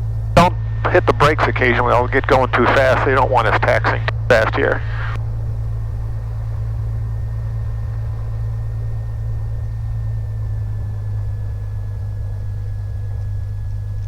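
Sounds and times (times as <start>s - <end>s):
propeller plane engine running: 0.0s - 14.0s
thin steady whine: 0.0s - 14.0s.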